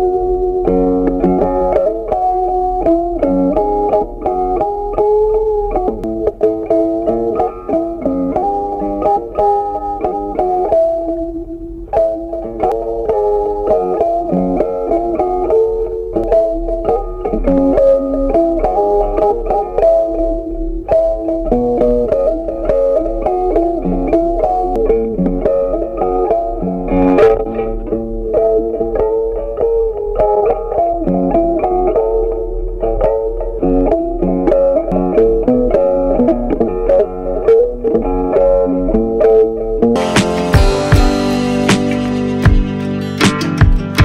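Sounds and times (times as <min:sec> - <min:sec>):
plucked guitar melody: 0:00.0 - 0:44.0.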